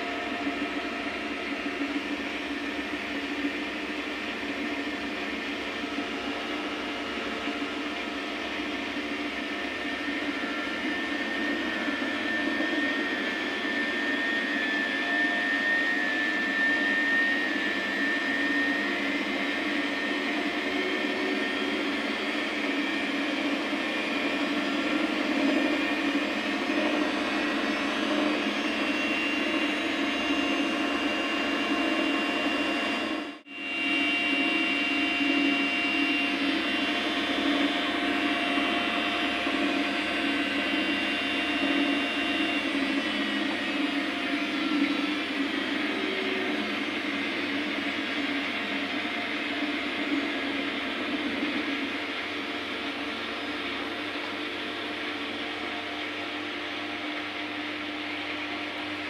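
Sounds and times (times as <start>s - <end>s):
higher whine: 0.0s - 59.0s
motor whine: 0.0s - 59.0s.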